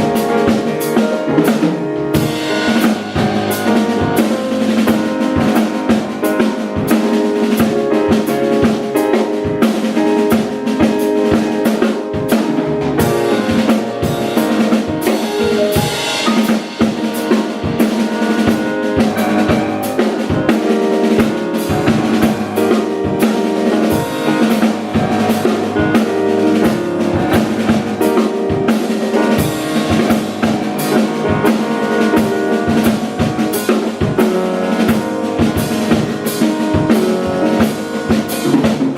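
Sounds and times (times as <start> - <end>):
drum kit beat: 0.0 - 38.9
live instrumental music: 0.0 - 38.9.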